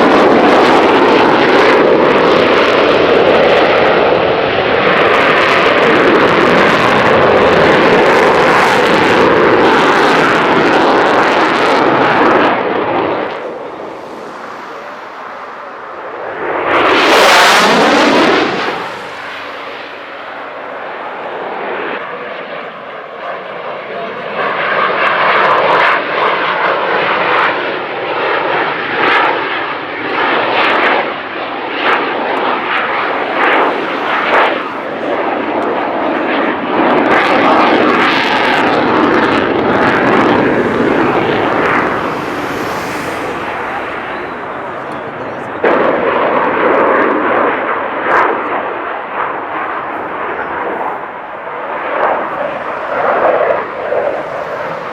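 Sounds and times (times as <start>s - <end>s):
fighter jet roaring: 0.0s - 54.9s.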